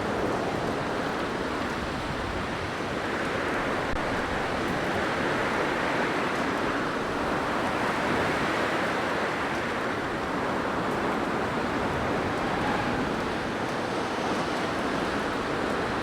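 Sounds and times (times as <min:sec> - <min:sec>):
blizzard wind rushing: 0:01.9 - 0:16.0.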